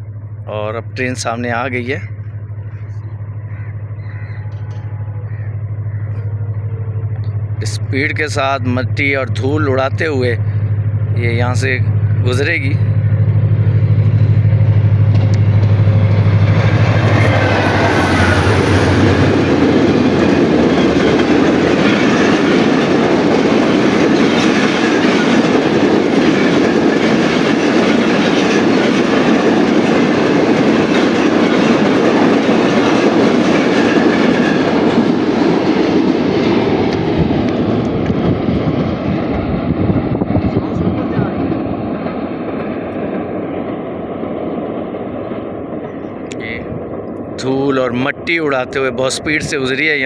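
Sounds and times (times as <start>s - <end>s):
diesel locomotive engine droning: 0.0s - 50.0s
train wheels clattering on rail: 2.2s - 47.7s.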